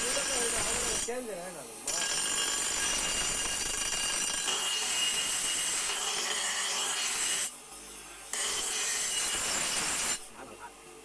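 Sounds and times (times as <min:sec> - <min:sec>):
power grinder grinding steel: 0:00.0 - 0:07.6, 0:08.3 - 0:10.4.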